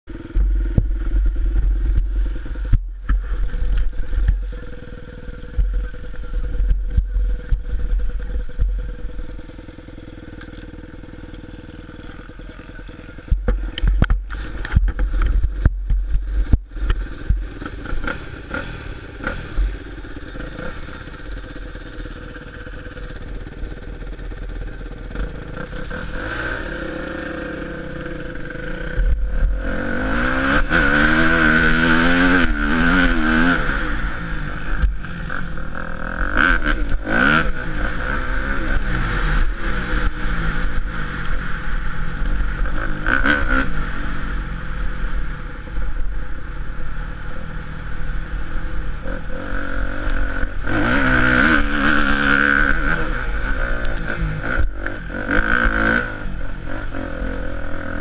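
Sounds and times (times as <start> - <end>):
motocross bike engine: 0.0 - 58.0.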